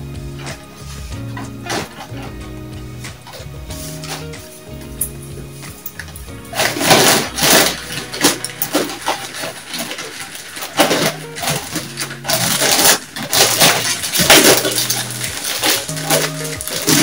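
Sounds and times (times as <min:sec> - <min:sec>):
pine needles and plastic bag rustling: 0:03.3 - 0:17.0.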